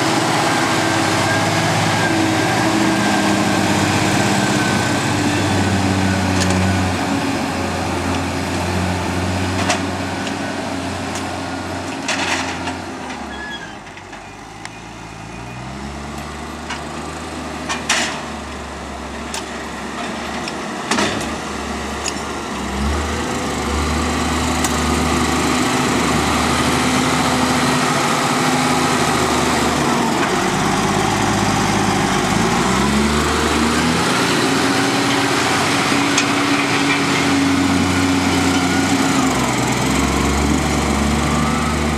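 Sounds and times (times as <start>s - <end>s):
tractor engine revving: 0.0s - 13.3s, 15.7s - 41.9s.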